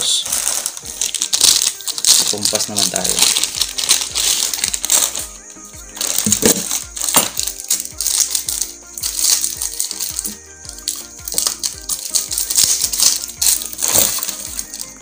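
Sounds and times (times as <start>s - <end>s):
background music: 0.0s - 15.0s
plastic wrapping crinkling: 0.0s - 15.0s.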